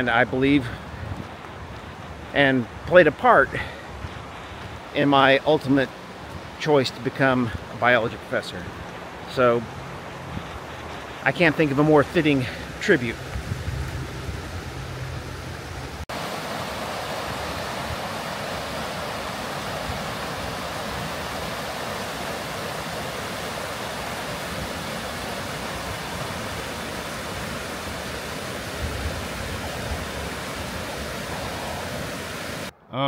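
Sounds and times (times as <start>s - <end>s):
stream water rushing: 0.0s - 32.8s.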